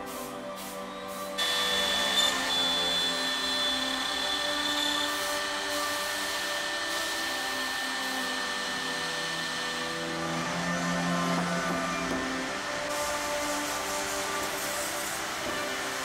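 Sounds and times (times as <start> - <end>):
router machine high whine: 1.4 - 16.0.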